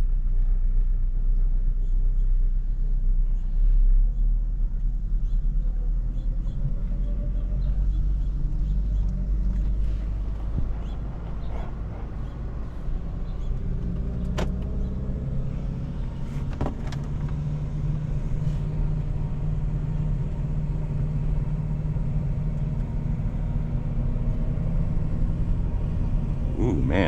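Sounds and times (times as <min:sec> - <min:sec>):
car engine running at low revs: 0:00.0 - 0:27.0.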